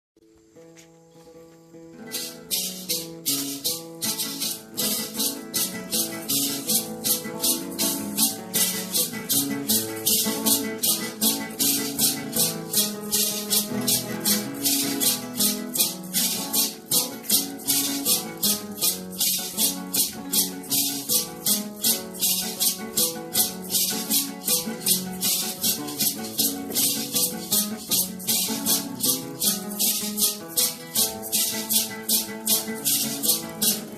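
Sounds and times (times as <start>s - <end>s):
plucked string melody: 0.2s - 33.9s
shaker beat: 0.8s - 33.9s.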